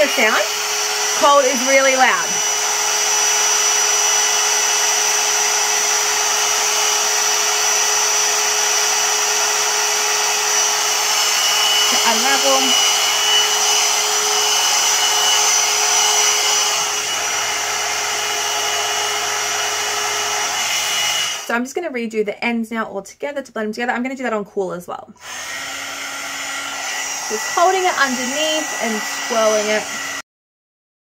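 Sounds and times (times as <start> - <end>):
hair dryer blowing with whine: 0.0 - 21.5, 25.2 - 30.2.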